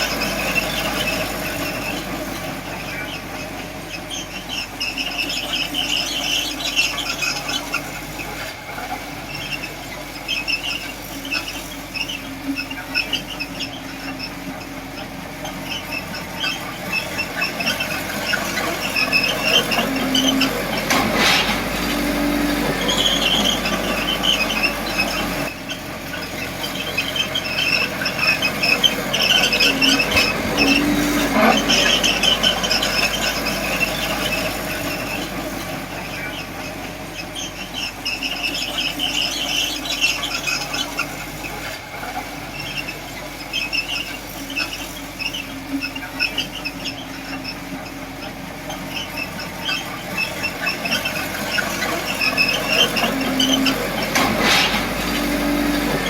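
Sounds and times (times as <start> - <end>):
small drive motor humming: 0.0 - 56.0
toy bulldozer tracks squeaking: 0.0 - 56.0.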